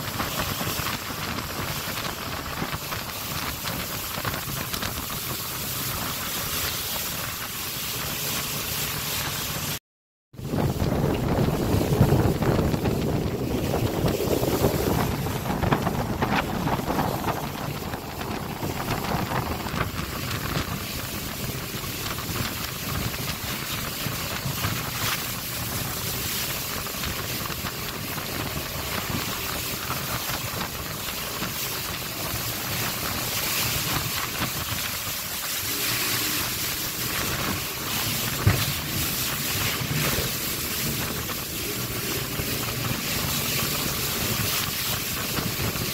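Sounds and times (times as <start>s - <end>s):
motorboat engine: 0.0s - 9.8s, 10.4s - 45.9s
rushing water splashing hull: 0.0s - 9.8s, 10.4s - 45.9s
wind buffeting microphone: 0.0s - 45.9s.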